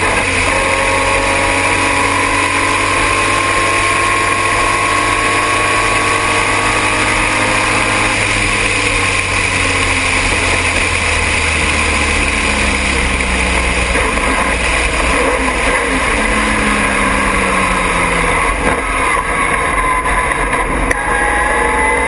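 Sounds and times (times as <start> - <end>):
race car engine running hard: 0.0 - 22.0
road noise: 0.0 - 22.0.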